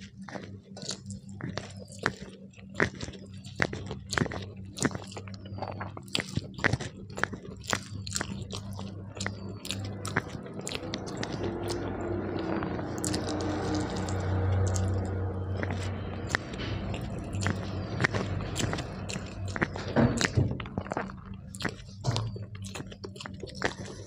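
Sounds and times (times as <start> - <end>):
steady low hum: 0.0 - 24.0
wet chewing and mouth smacks: 0.0 - 24.0.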